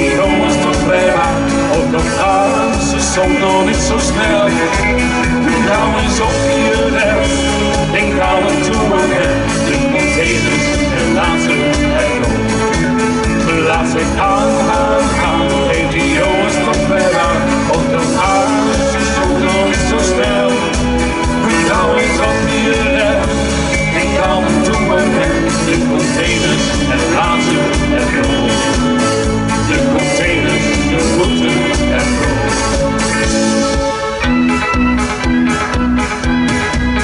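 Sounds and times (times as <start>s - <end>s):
man singing into microphone: 0.0s - 33.7s
upbeat backing track with guitar: 0.0s - 37.0s.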